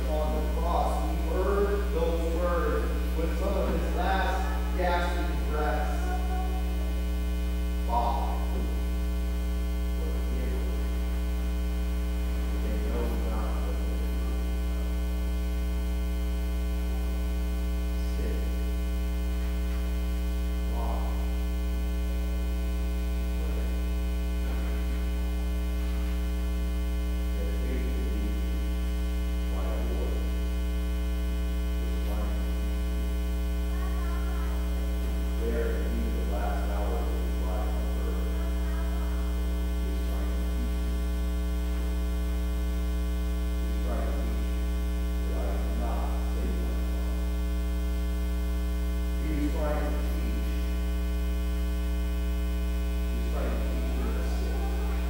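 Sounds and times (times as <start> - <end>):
low electrical mains hum: 0.0 - 55.0.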